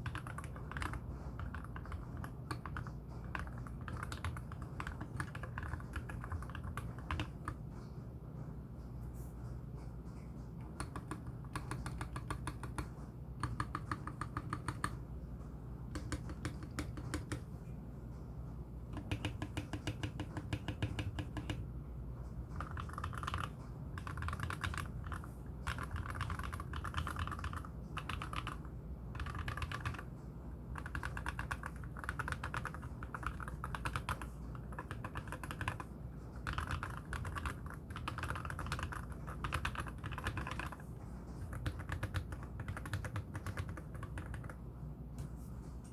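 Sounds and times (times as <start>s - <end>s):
mechanical keyboard typing: 0.0s - 7.6s, 10.7s - 15.0s, 15.9s - 17.5s, 18.9s - 21.6s, 22.5s - 30.1s, 30.7s - 40.8s, 41.4s - 44.6s.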